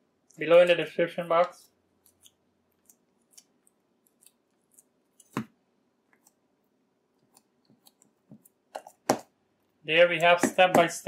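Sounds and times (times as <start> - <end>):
sticky clicks of hands shaping dough: 1.4 - 11.0.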